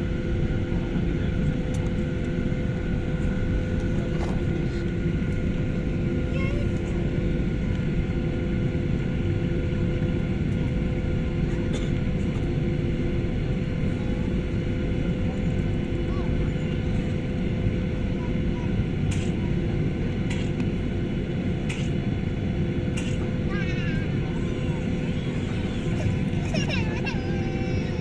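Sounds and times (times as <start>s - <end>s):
airplane engines running: 0.0s - 28.0s.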